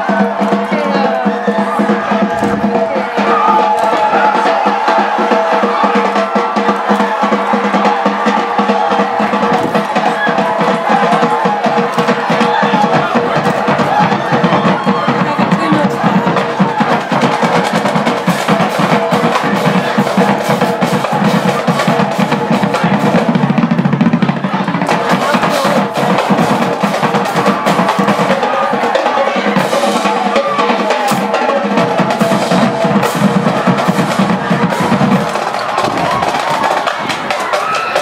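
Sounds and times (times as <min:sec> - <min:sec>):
bass drums: 0:00.0 - 0:28.9, 0:29.5 - 0:38.0
snare drum rolls: 0:00.0 - 0:38.0.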